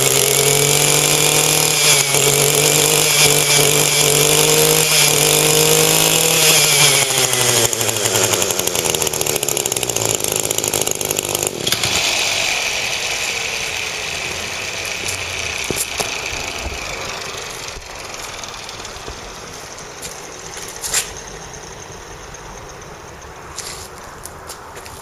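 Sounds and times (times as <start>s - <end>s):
two-stroke brushcutter engine: 0.0s - 22.3s.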